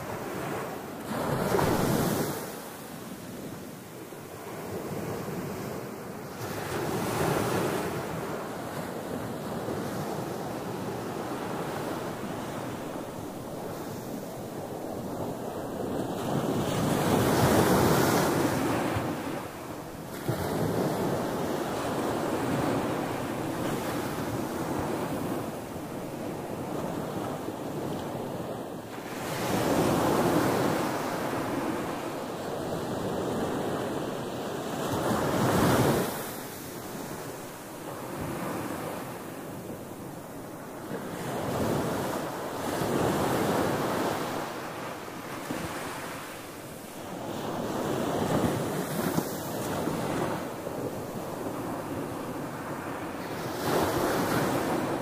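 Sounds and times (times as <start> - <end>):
waves breaking on sand: 0.0 - 55.0.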